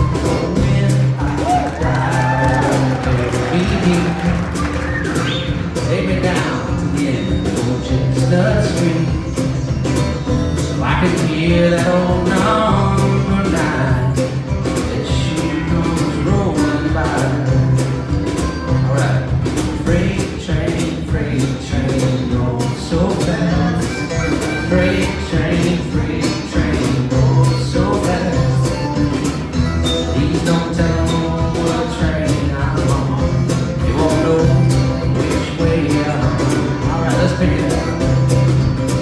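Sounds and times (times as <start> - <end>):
live country-folk band: 0.0 - 39.0.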